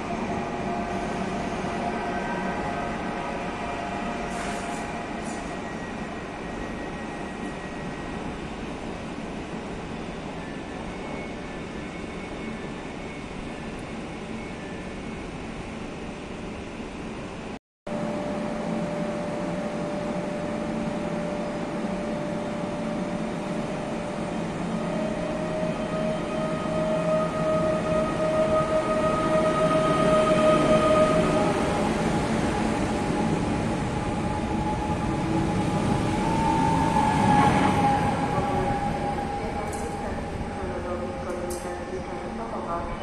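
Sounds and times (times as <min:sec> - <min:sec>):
electric train whine: 0:00.0 - 0:43.0.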